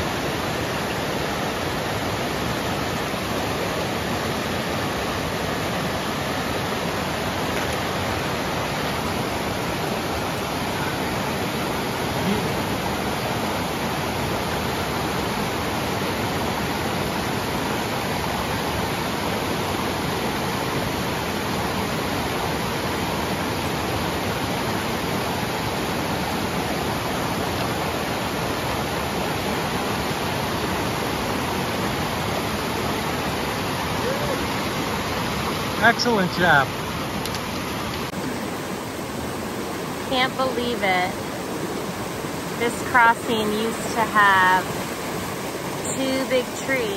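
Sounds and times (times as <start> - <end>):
river rushing over boulders: 0.0 - 46.9.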